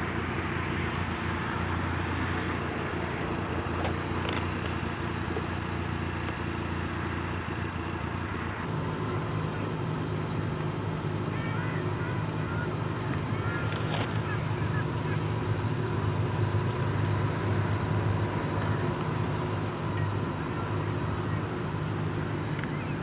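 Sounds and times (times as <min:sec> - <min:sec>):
car engine and tyre noise: 0:00.0 - 0:23.0.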